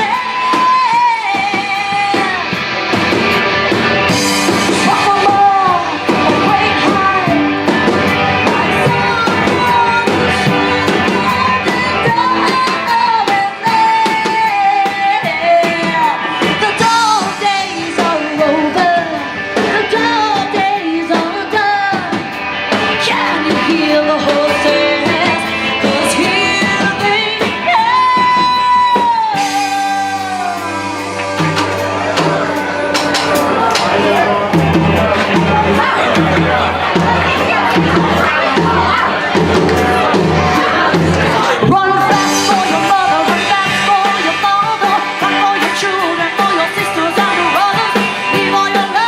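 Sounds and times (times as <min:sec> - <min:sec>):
lead singer singing: 0:00.0 - 0:49.0
live rock band playing: 0:00.0 - 0:49.0.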